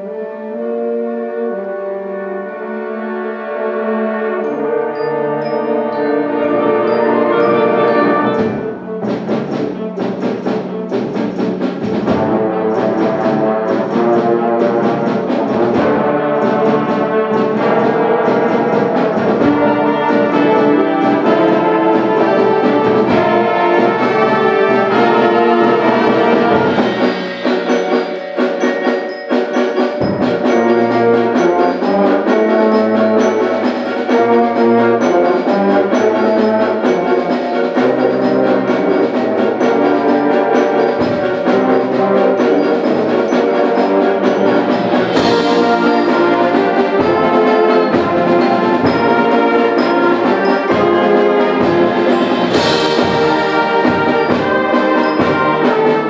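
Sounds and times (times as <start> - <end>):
band playing brass and percussion: 0.0 - 56.0.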